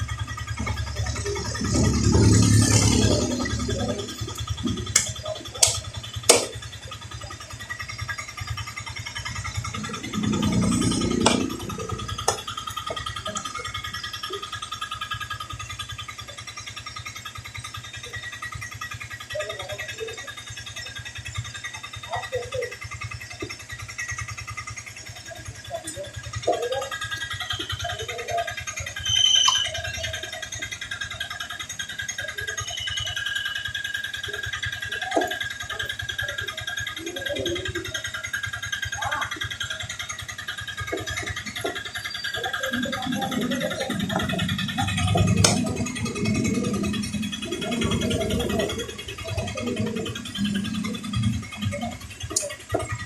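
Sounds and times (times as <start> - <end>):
small engine idling: 0.0 - 53.0.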